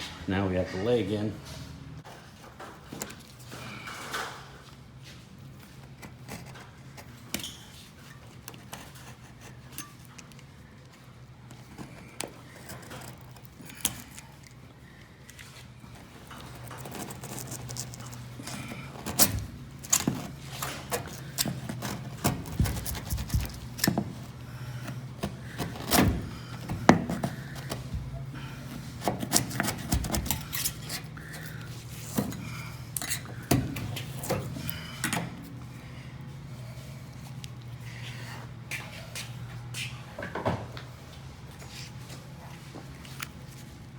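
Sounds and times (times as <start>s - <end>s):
steady low hum: 8.1s - 43.9s.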